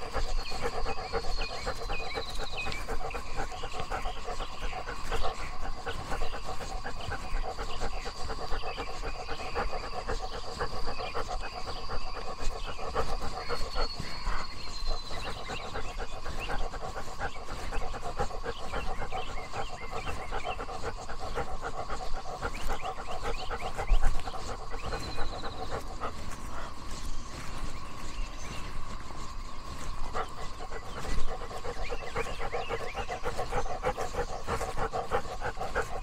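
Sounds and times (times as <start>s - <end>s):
dog panting: 0.0s - 36.0s.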